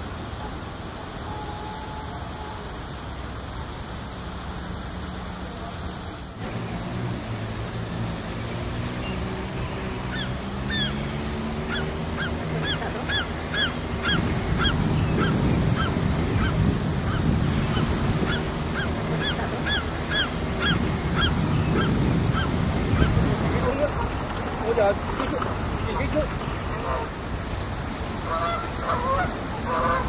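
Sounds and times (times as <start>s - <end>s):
low wind-like rumble: 0.0s - 30.0s.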